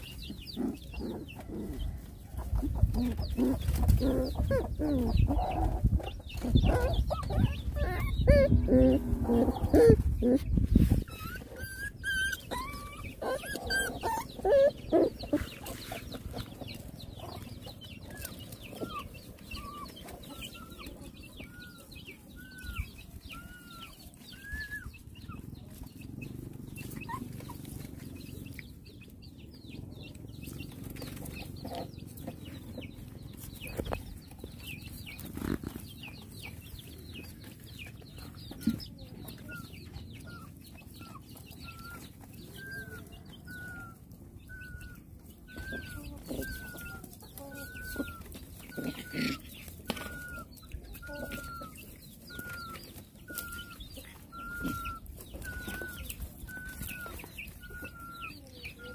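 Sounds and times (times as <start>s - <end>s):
animal calls: 0.0s - 28.6s, 37.5s - 58.9s.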